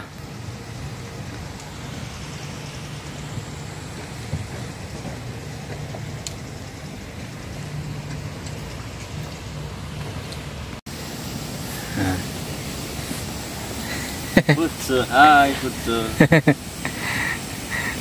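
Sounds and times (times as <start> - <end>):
steady outdoor rushing noise: 0.0 - 18.0.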